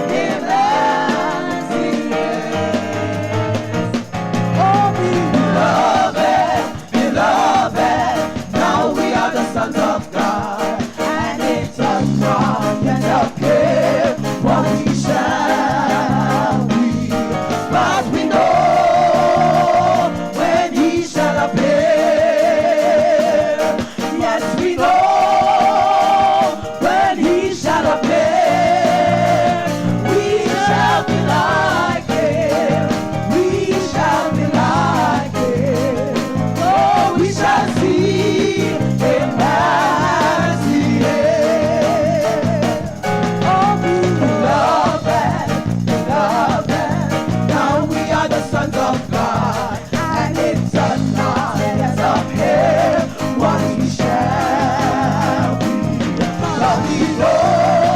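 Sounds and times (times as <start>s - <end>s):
pulsing bass line: 0.0s - 23.4s, 24.2s - 57.9s
live gospel music: 0.0s - 57.9s.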